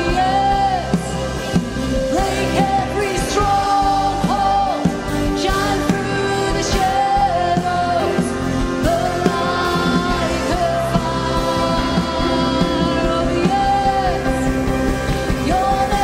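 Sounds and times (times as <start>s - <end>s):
live rock band playing: 0.0s - 16.0s
woman singing lead: 0.0s - 16.0s.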